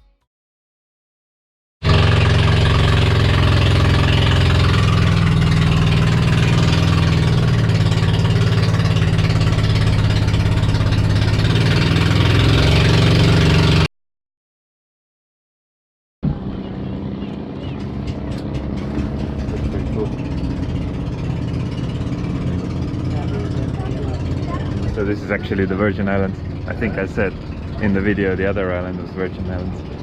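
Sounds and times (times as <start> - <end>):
boat engine running: 1.8 - 13.9, 16.2 - 30.0.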